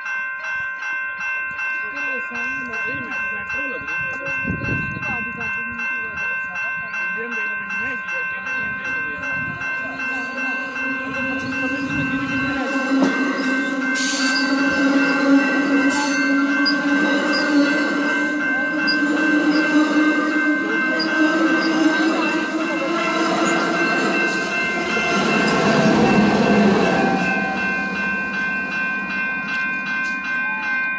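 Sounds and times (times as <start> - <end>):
level crossing bell ringing: 0.0 - 30.9
train rumbling past on rails: 2.1 - 30.9.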